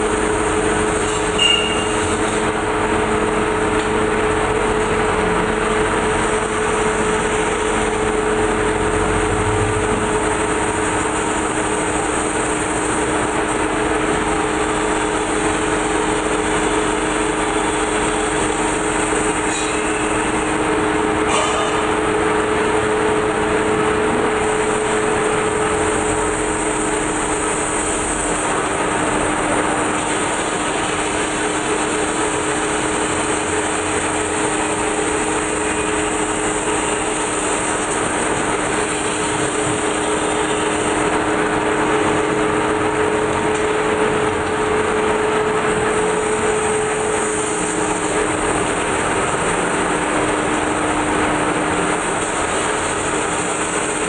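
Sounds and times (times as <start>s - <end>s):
metal spinning lathe running: 0.0s - 54.0s.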